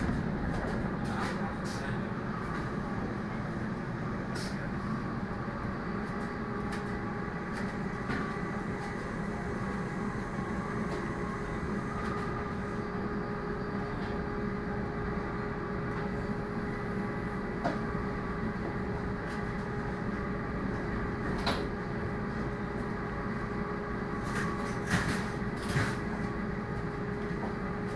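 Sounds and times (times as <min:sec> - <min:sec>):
train running noise: 0:00.0 - 0:27.9.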